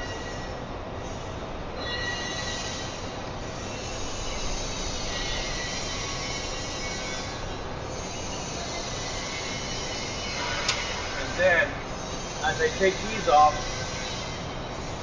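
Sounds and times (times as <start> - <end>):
factory machinery noise: 0.0 - 15.0.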